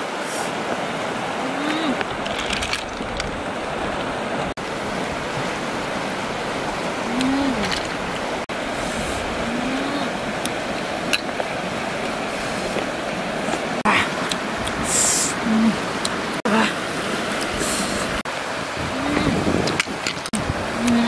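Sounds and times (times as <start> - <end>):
fast-flowing river rushing: 0.0 - 21.0.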